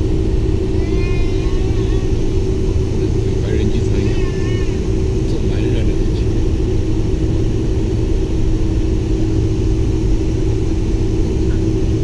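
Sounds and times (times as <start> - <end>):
jet engines humming: 0.0 - 12.0
low cabin rumble: 0.0 - 12.0.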